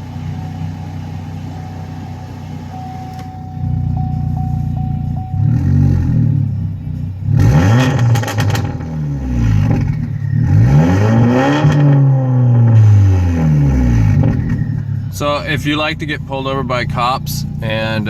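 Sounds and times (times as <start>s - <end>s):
car engine revving loud exhaust: 0.0s - 18.0s.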